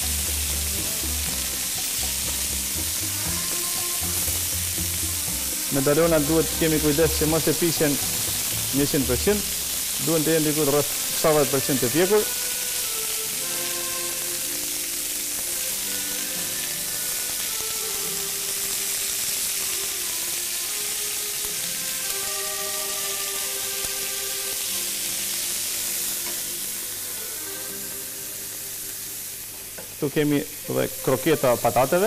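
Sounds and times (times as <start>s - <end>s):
background music of held notes: 0.0s - 32.0s
meat sizzling on a griddle: 0.0s - 32.0s.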